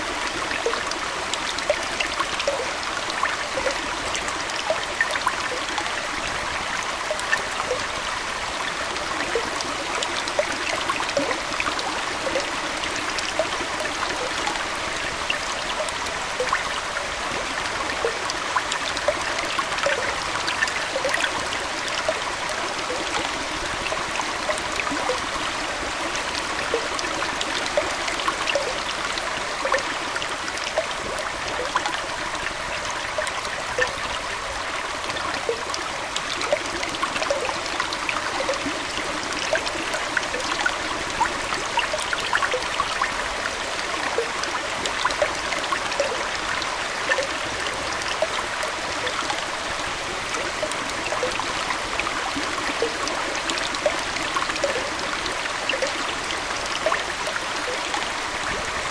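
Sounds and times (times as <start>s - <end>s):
aquarium water trickling: 0.0s - 58.9s.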